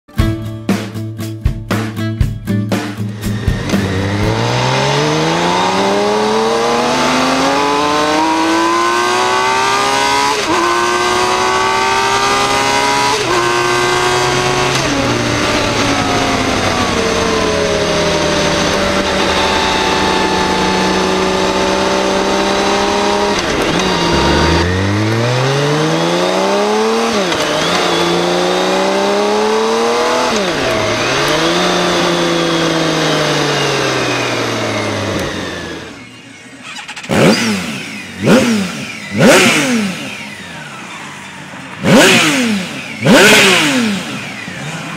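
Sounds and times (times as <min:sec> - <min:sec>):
motorcycle engine accelerating: 0:02.8 - 0:44.9.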